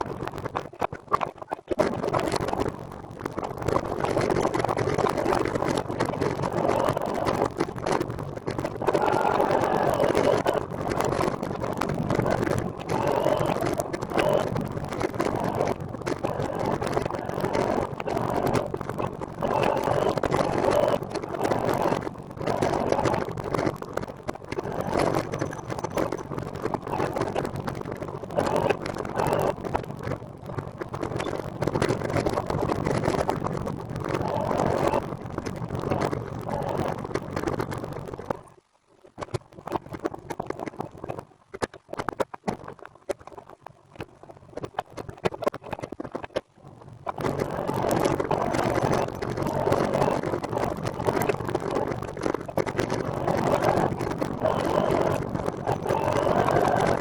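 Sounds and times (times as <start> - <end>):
wheels rolling noise: 0.0 - 43.3, 44.0 - 57.0.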